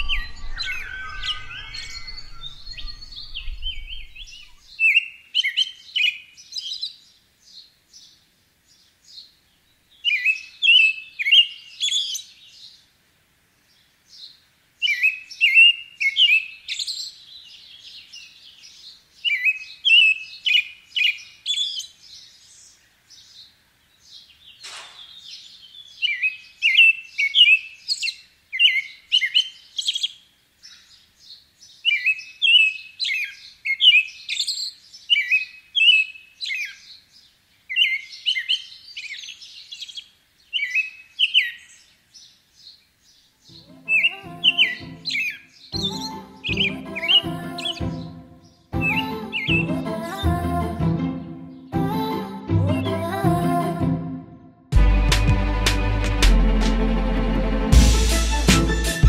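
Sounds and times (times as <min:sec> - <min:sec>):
small birds chirping: 0:00.0 - 0:13.0, 0:13.6 - 0:50.2.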